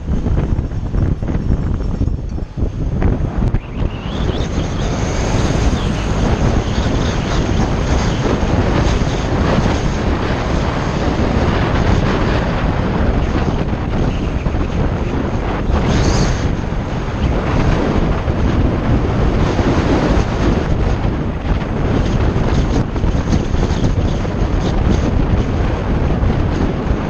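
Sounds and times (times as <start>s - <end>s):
vehicle road noise: 0.0s - 27.0s
wind buffeting microphone: 0.0s - 27.0s.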